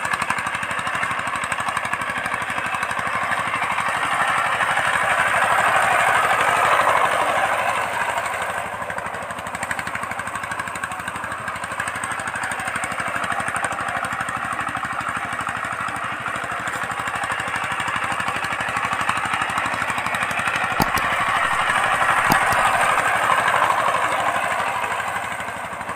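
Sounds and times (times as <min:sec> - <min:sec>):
diesel tiller engine chugging: 0:00.0 - 0:25.9.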